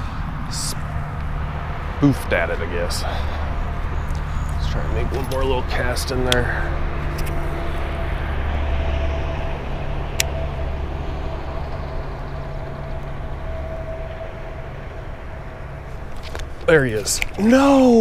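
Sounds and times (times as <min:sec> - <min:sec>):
faint higher hum: 0:00.0 - 0:18.0
low mechanical drone: 0:00.0 - 0:18.0.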